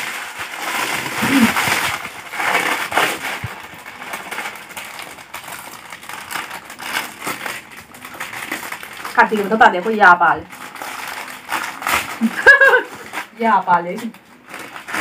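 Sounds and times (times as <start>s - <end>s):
foil packets crinkling: 0.0s - 15.0s.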